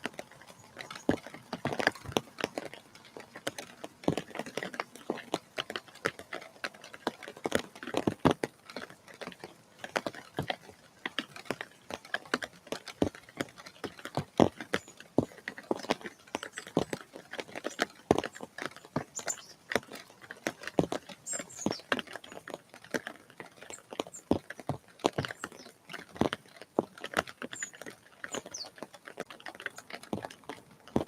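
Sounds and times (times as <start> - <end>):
raindrops tapping: 0.0 - 31.0.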